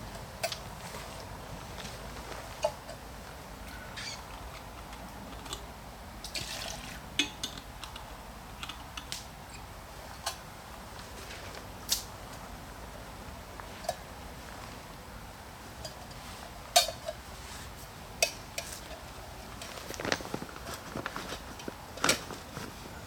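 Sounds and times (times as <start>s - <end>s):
low steady hiss: 0.0s - 23.0s.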